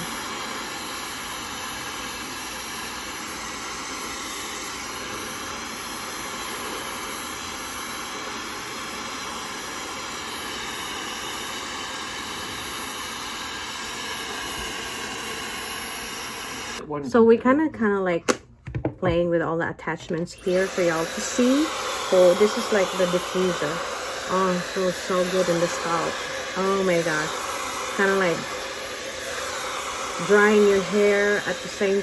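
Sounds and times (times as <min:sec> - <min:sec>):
hair dryer blowing air: 0:00.0 - 0:16.8, 0:20.4 - 0:32.0.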